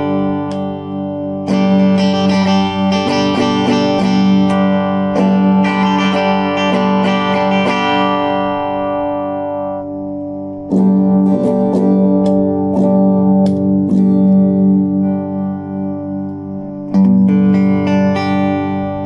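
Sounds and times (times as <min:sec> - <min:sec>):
electric guitar picked notes and chords: 0:00.0 - 0:19.0.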